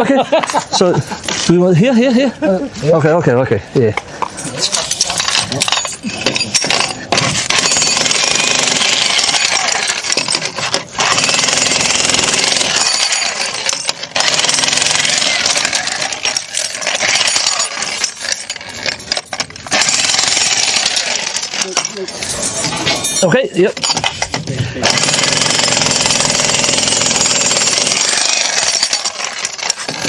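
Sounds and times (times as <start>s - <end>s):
jackhammer on masonry: 4.7s - 30.0s.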